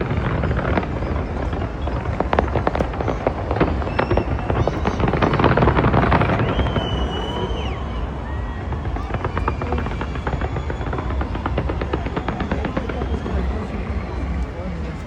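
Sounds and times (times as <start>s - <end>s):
firework whistle: 0.0s - 15.0s
fireworks bangs and crackles: 0.0s - 15.0s.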